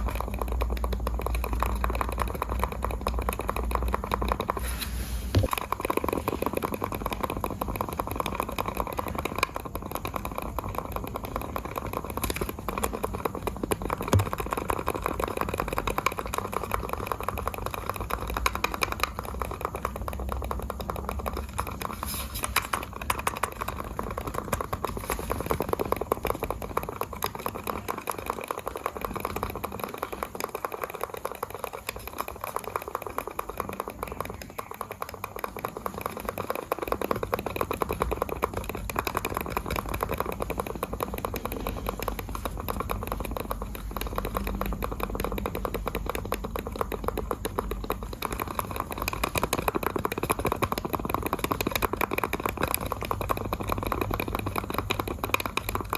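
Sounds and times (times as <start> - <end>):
mouse buttons clicking rapidly: 0.0 - 4.7, 5.3 - 55.9.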